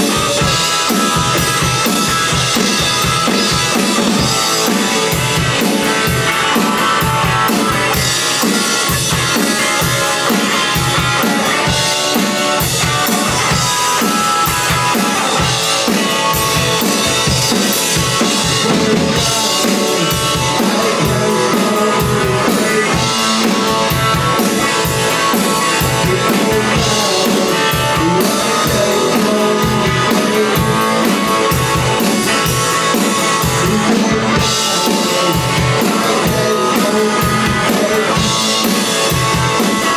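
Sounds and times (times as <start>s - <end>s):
drum kit rock beat: 0.0s - 39.9s
electric guitar: 0.0s - 39.9s.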